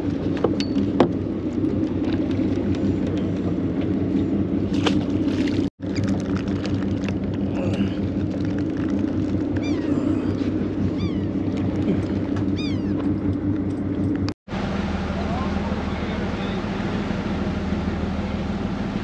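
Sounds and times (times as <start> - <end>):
boat engine drone: 0.0 - 19.0.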